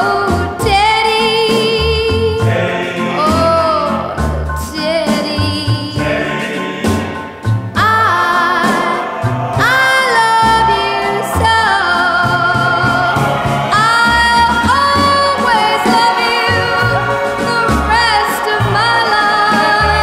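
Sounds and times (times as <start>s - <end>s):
song with vibrato vocal: 0.0s - 20.0s
steady bass line: 0.0s - 20.0s.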